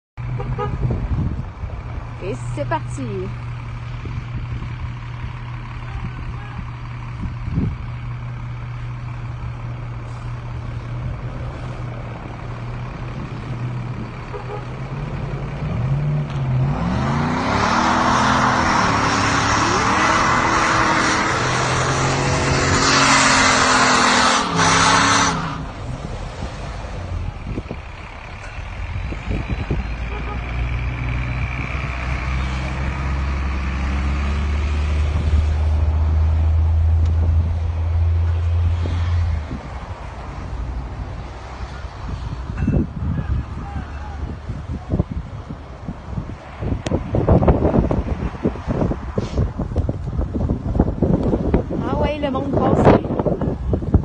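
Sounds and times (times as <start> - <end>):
vehicle engine idling and revving: 0.2 - 54.0.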